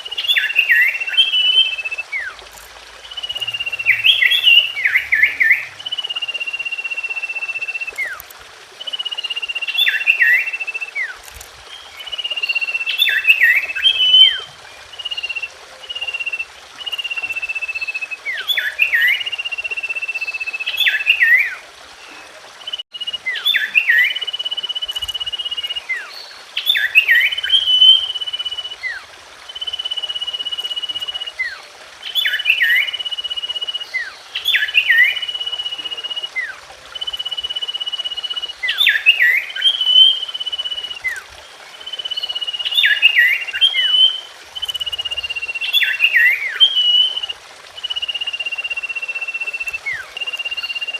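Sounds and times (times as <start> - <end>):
bird singing high whistles: 0.1 - 2.4, 3.1 - 8.2, 8.8 - 21.6, 22.2 - 41.2, 41.8 - 50.9.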